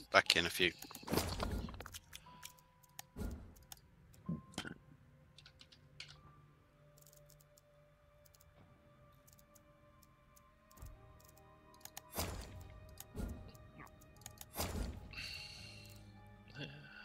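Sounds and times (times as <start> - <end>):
faint game menu music: 0.0 - 17.0.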